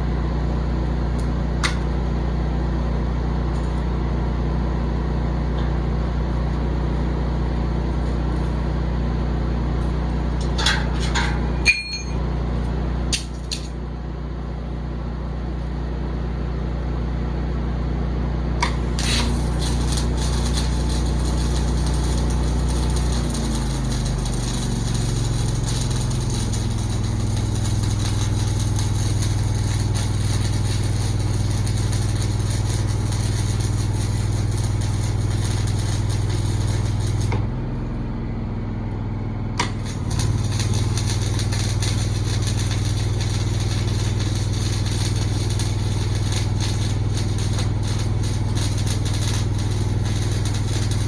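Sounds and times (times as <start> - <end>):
engine droning: 0.0 - 51.0.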